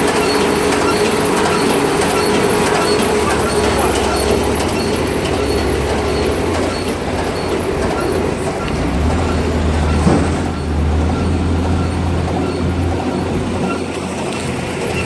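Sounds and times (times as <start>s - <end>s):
baler running with low hum: 0.0s - 15.0s
loud mechanical knock: 0.0s - 15.0s.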